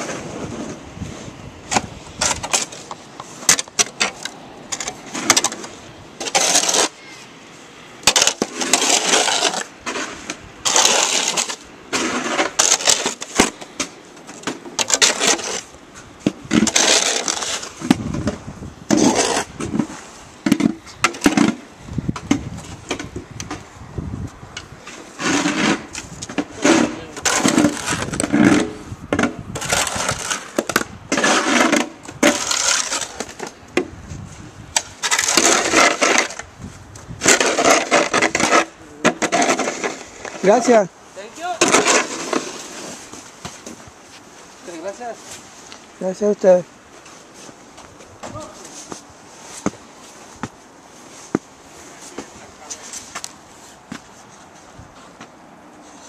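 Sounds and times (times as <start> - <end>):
snow shovels scraping on concrete: 0.0 - 21.6, 24.8 - 56.0.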